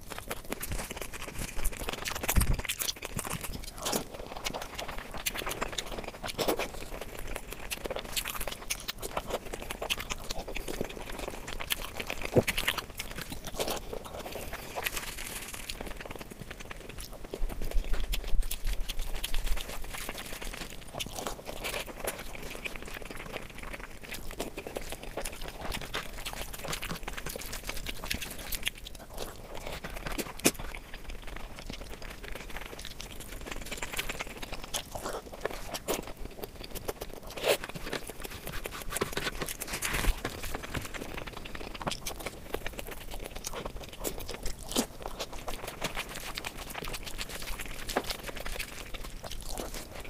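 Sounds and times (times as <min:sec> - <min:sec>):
fingers squelching through food: 0:00.0 - 0:50.0
person chewing and crunching: 0:00.0 - 0:50.0.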